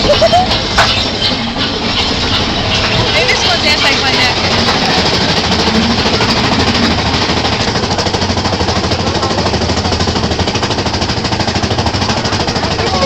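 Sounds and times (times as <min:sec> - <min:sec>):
roller coaster chain lift clacking: 0:00.0 - 0:13.0.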